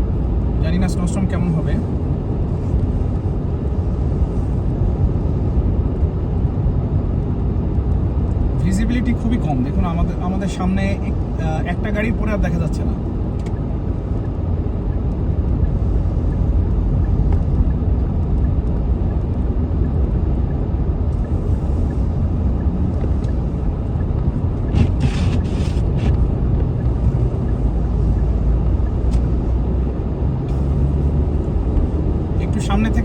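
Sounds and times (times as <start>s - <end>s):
car interior road rumble: 0.0s - 33.0s.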